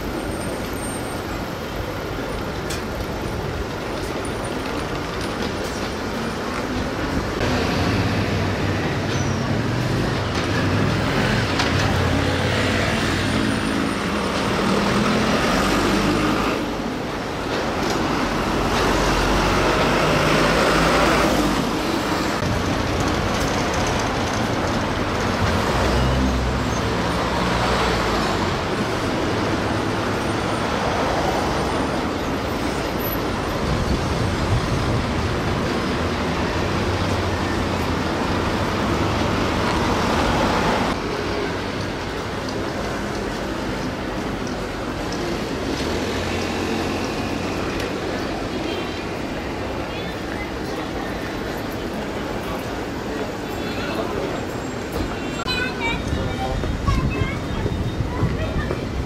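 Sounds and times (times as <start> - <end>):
buses passing: 0.0 - 59.0
vehicle engines passing: 0.0 - 59.0.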